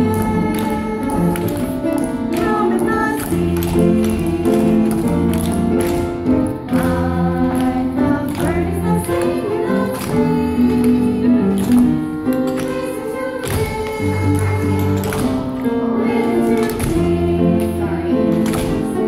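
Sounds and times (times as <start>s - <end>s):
choir singing with music: 0.0s - 19.0s.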